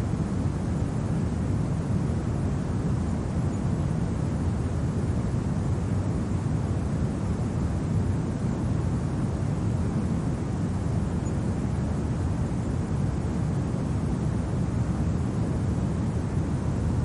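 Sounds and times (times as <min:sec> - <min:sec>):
low rumble of wind: 0:00.0 - 0:17.0.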